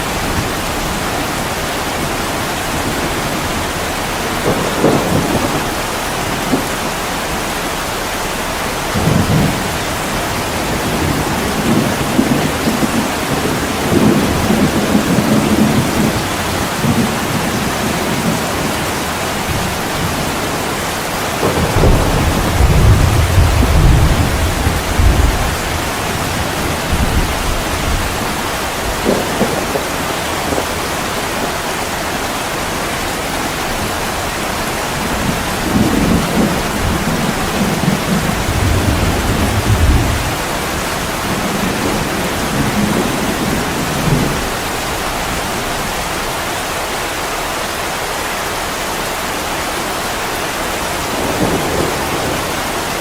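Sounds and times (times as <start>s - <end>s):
low thunder rumbling: 0.0s - 47.1s, 50.6s - 53.0s
heavy rain pouring: 0.0s - 53.0s.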